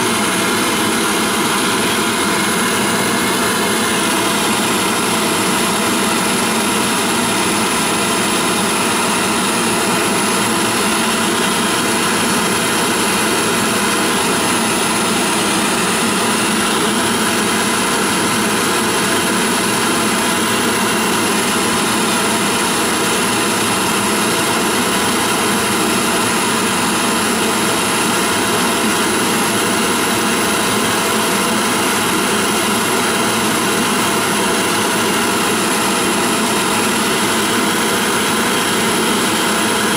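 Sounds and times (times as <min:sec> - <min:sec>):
gas burner running: 0:00.0 - 0:39.9.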